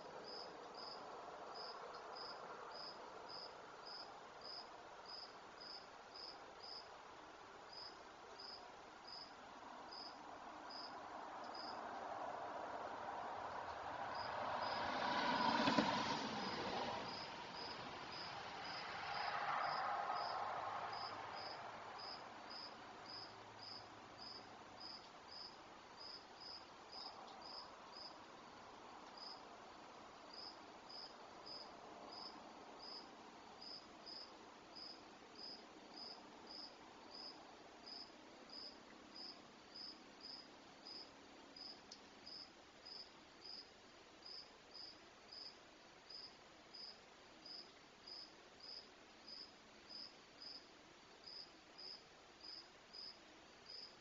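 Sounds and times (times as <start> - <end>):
cricket chirping: 0.0 - 6.9, 7.7 - 11.8, 14.1 - 28.2, 29.0 - 29.5, 30.3 - 54.0.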